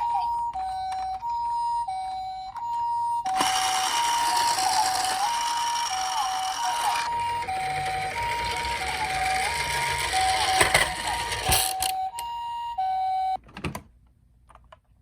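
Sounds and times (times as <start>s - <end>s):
toy electronic two-tone siren: 0.0s - 13.4s.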